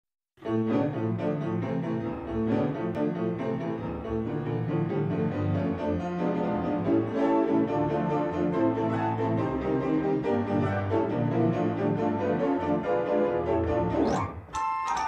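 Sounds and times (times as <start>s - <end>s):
piano music: 0.4s - 15.0s.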